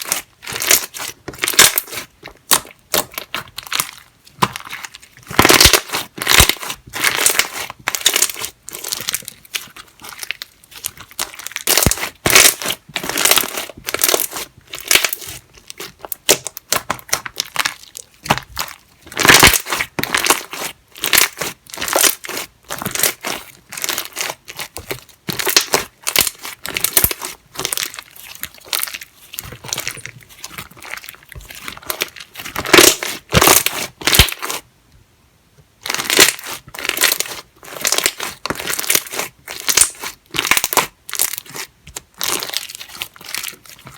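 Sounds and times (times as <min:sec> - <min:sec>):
hands squishing slime: 0:00.0 - 0:34.6, 0:35.8 - 0:43.9.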